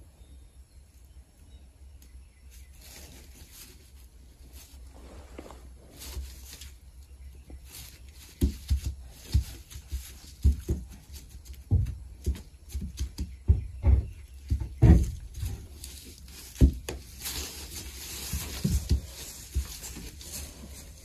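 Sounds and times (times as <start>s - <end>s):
hooves thumping in straw: 2.5s - 21.0s.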